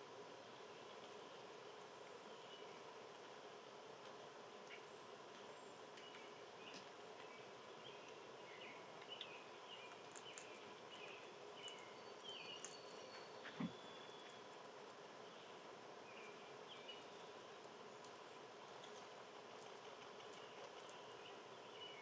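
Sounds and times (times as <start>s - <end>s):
small birds chirping: 0.5s - 3.4s, 4.0s - 22.0s.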